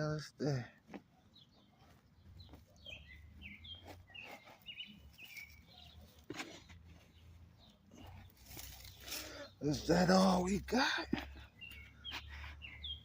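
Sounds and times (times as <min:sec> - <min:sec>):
small birds chirping: 0:00.0 - 0:13.0
digging soil by hand: 0:00.6 - 0:13.0.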